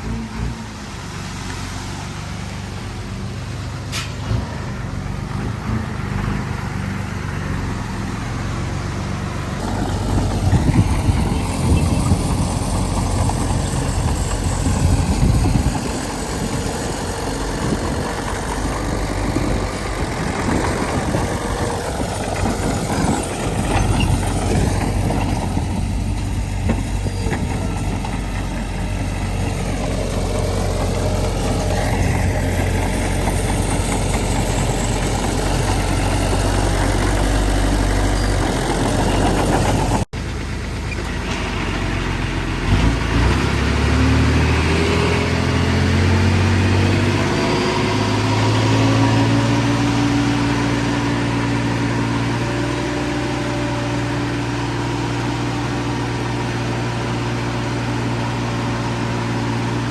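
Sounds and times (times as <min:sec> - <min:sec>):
diesel engine running: 0:02.0 - 0:59.9.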